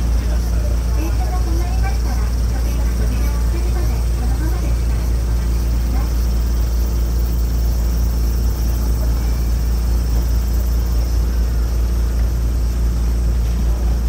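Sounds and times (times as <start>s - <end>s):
train engine droning: 0.0s - 14.0s.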